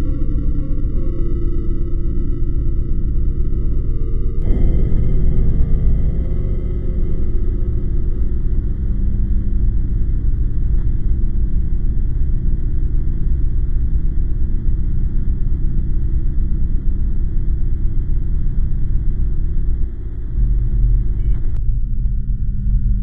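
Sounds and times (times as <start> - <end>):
deep low drone: 0.0 - 23.0.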